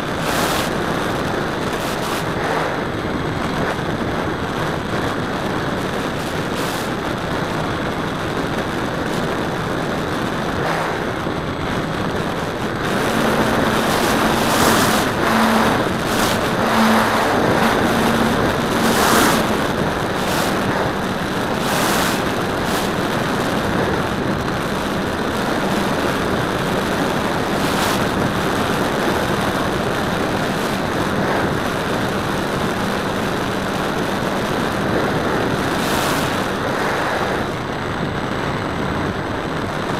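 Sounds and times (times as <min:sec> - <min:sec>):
wind rushing: 0:00.0 - 0:07.0, 0:08.6 - 0:37.9
motor and propeller drone: 0:00.0 - 0:38.1.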